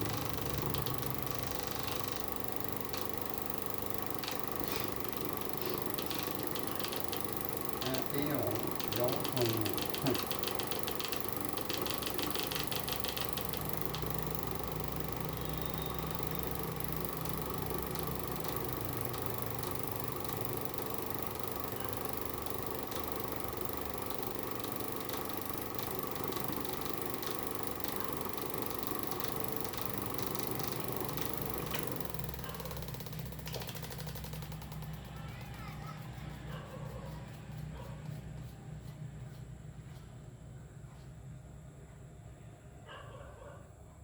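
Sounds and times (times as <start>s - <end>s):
fast rattling tick: 0.0s - 38.2s
electric fan motor humming: 0.0s - 42.1s.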